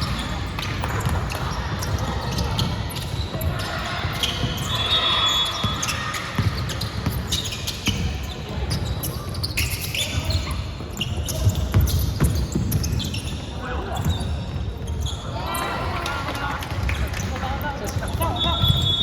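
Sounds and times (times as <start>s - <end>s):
basketball bouncing on court: 0.0s - 15.2s, 16.2s - 19.0s.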